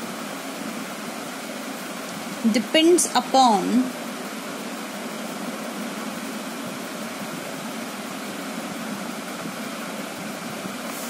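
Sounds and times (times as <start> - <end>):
room background hiss: 0.0 - 11.0.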